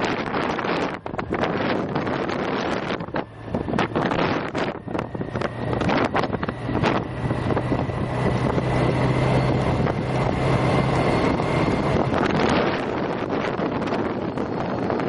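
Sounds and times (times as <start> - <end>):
vehicle engine hum: 0.0 - 15.0
wind buffeting microphone: 0.0 - 15.0.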